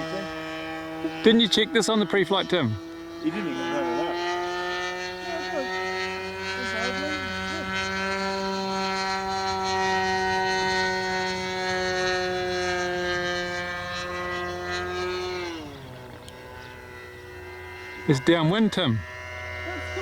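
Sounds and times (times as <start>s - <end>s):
model aircraft engine running: 0.0s - 20.0s.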